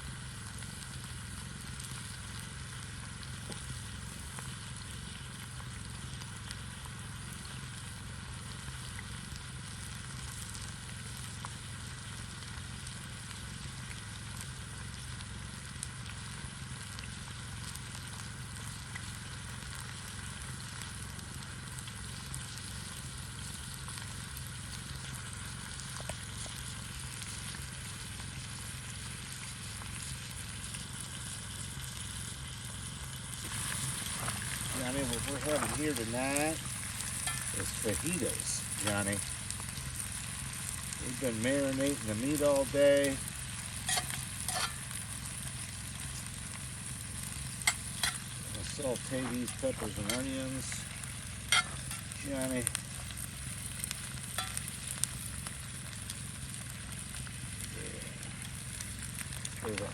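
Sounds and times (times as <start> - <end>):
fire crackling: 0.0 - 59.9
food sizzling in a pan: 0.0 - 59.9
low steady rumble: 0.0 - 59.9.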